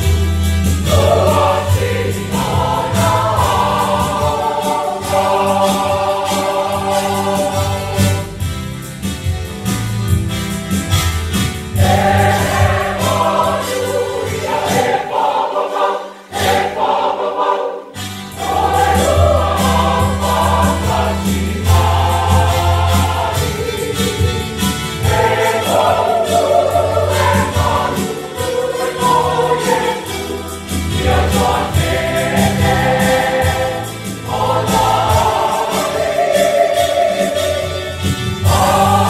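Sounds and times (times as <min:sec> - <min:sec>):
church choir singing a hymn: 0:00.0 - 0:08.6, 0:11.7 - 0:39.0.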